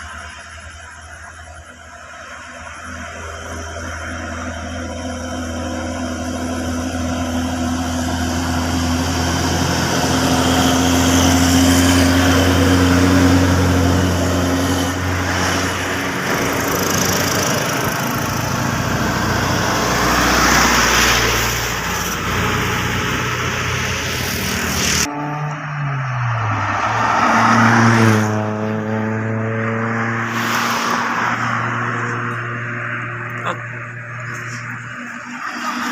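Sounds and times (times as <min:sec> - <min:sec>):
diesel truck engines: 0:00.0 - 0:35.9.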